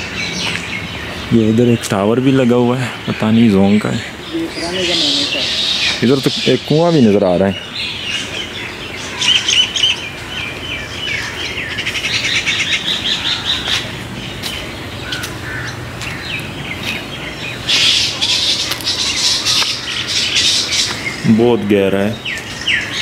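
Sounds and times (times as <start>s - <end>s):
birds chirping and singing: 0.0s - 23.0s.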